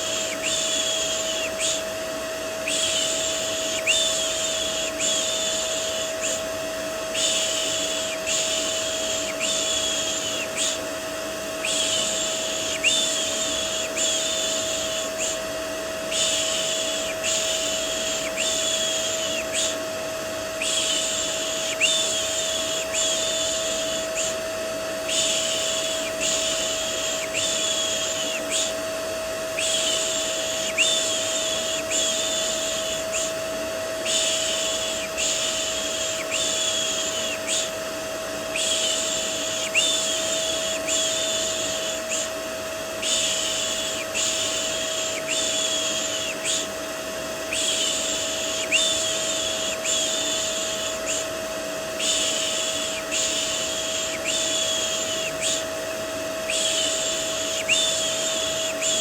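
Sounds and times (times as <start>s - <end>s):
vacuum cleaner drone: 0.0s - 59.0s.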